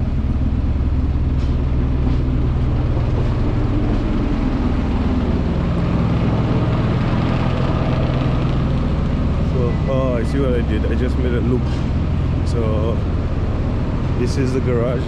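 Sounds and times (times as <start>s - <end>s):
outdoor noise: 0.0s - 15.0s.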